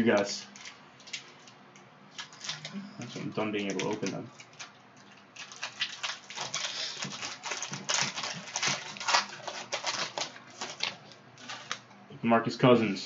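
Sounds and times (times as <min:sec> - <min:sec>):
foil wrapper crinkling: 0:00.1 - 0:11.8.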